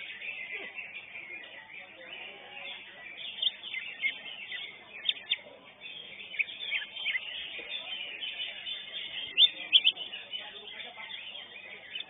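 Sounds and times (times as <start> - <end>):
faint crowd murmur: 0.0 - 12.0.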